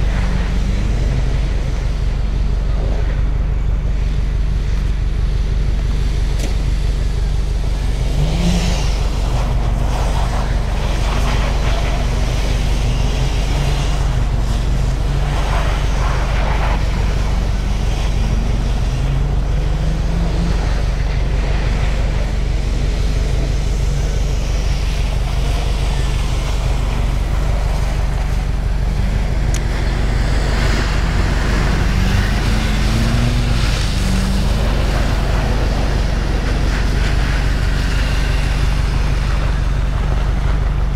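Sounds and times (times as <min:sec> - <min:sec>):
car engine revving faintly: 0:00.0 - 0:40.9
wind rumble on microphone: 0:00.0 - 0:40.9.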